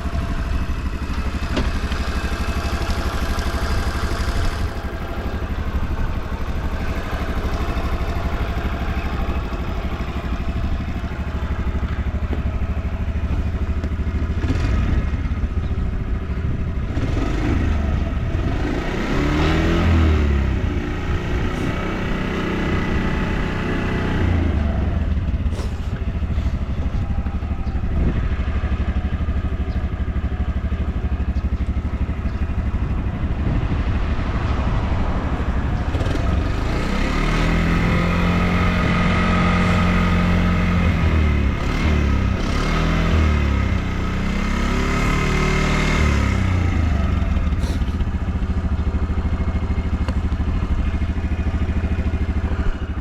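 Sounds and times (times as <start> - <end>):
small engine idling and revving: 0.0 - 53.0.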